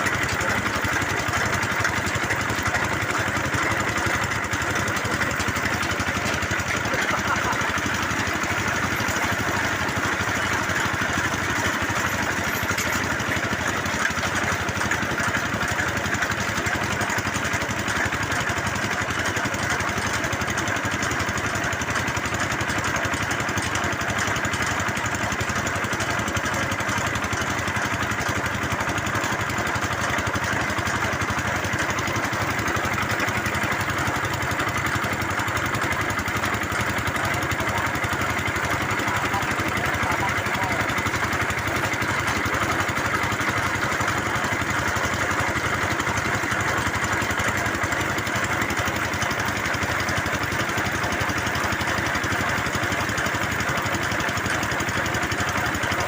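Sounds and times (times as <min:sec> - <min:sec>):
drilling rig engine running: 0:00.0 - 0:56.0.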